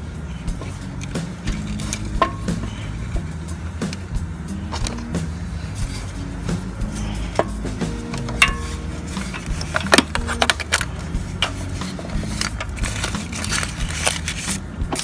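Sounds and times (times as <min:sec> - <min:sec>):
hand tools and metal parts clinking: 0:00.0 - 0:15.0
steady low rumble: 0:00.0 - 0:15.0.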